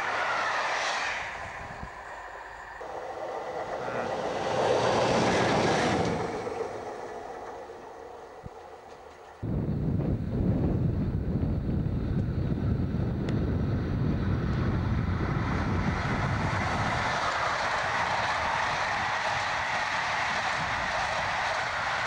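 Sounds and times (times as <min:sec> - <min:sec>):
rush of wheels on rail: 0:00.0 - 0:09.5, 0:10.6 - 0:22.0
train low rumble: 0:00.0 - 0:22.0.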